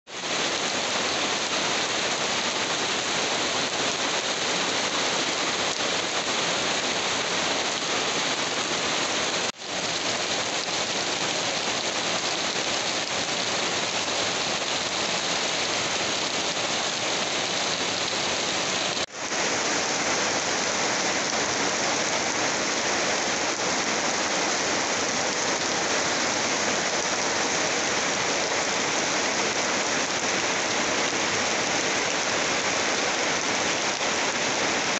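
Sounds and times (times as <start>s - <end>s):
heavy rain hissing: 0.1s - 34.9s.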